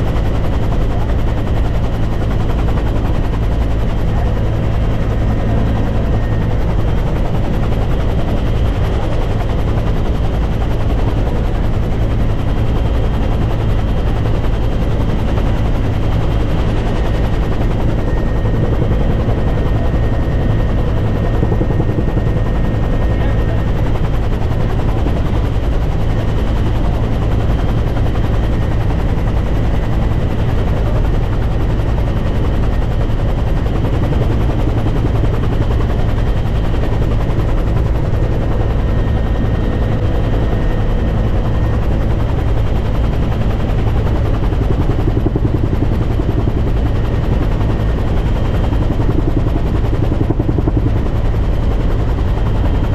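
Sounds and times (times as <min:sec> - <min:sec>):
helicopter drone: 0:00.0 - 0:52.9.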